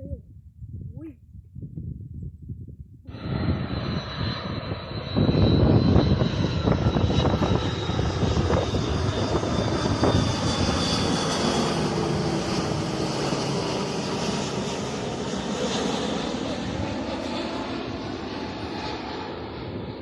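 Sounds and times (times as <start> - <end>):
airliner engines rumbling: 1.8 - 20.0.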